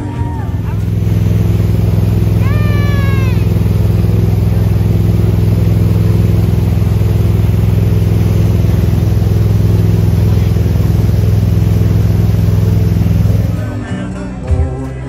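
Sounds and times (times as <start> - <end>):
boat engine droning: 0.0 - 14.1.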